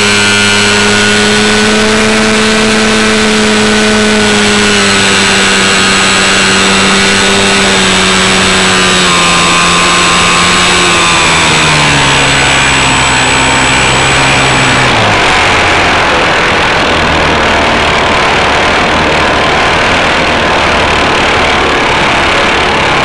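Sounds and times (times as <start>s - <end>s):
electric motor and propeller whine: 0.0s - 23.0s.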